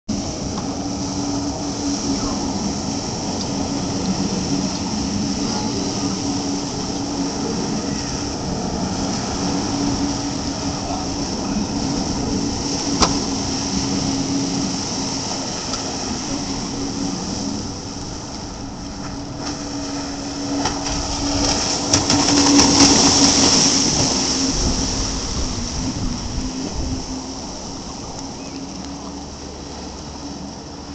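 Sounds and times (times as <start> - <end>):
jet ski engine running: 0.1 - 30.9.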